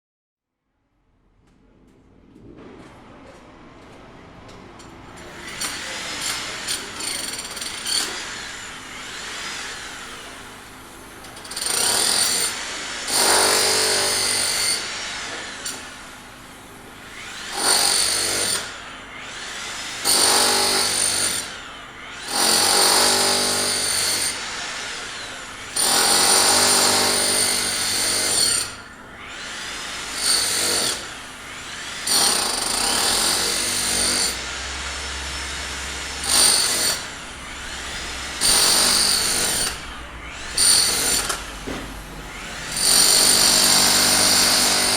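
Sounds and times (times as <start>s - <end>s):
power tool whining: 5.2s - 44.9s.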